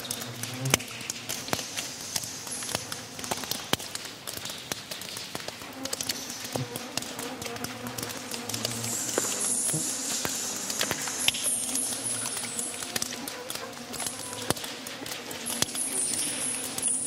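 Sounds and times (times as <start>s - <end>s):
insects buzzing: 0.0s - 4.1s, 5.4s - 17.0s
water dripping: 0.0s - 17.0s.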